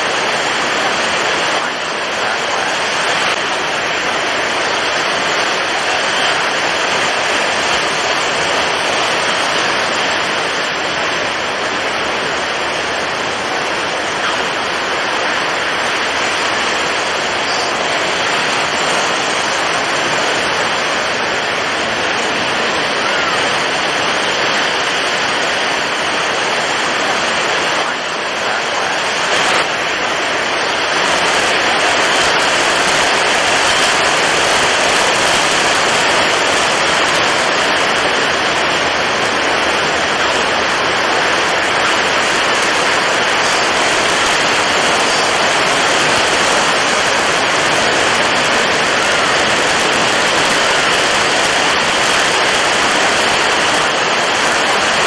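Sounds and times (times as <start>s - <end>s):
heavy waves: 0.0s - 55.0s
strong wind: 0.0s - 55.0s.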